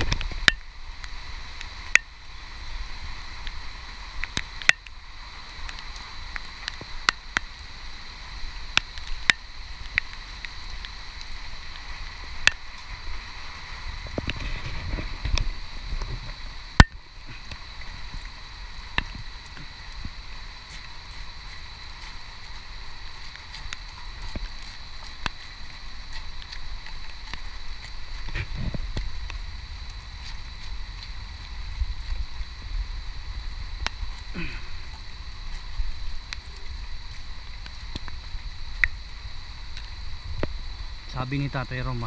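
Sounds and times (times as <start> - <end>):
rain hissing in foliage: 0.0 - 42.0.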